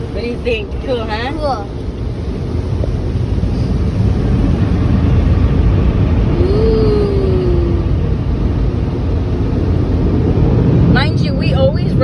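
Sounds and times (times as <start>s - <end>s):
car wash machinery rumbling: 0.0s - 12.0s.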